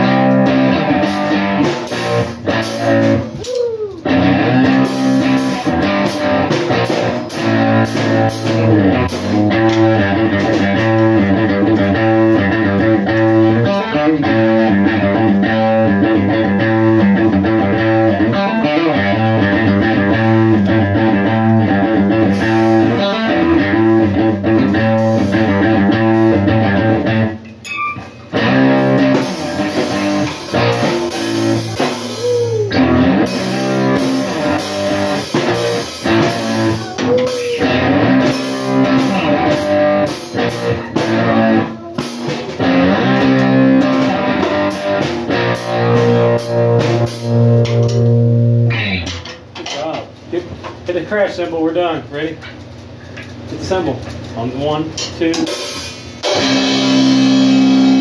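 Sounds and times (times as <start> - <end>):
live rock band playing: 0.0 - 49.2, 55.4 - 58.0.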